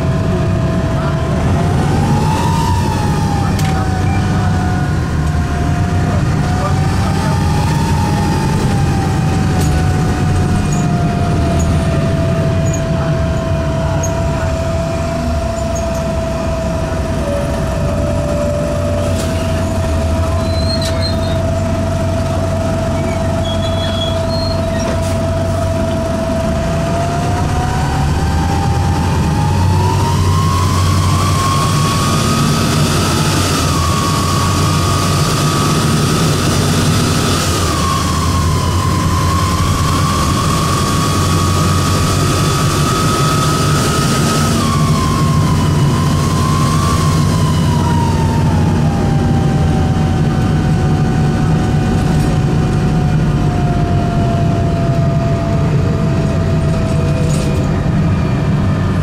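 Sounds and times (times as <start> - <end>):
diesel bus engine rumble: 0.0 - 59.0
engine whine: 0.0 - 59.0.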